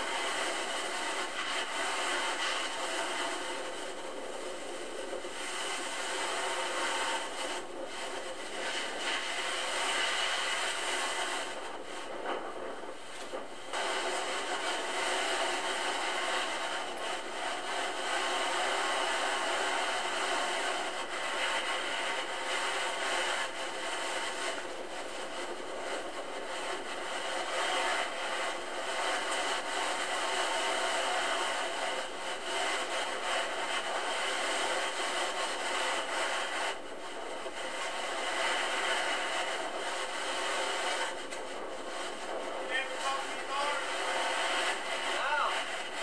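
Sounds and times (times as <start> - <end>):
steady rushing noise: 0.0 - 46.0.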